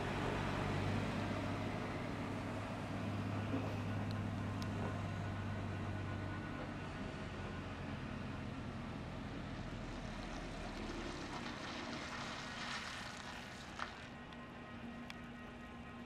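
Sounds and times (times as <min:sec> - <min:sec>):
diesel truck engine humming: 0:00.0 - 0:16.0.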